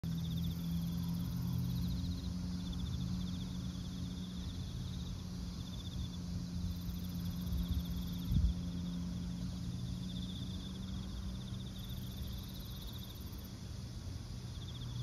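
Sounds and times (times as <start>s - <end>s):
crickets chirping: 0.0s - 15.0s
steady low hum: 0.0s - 15.0s.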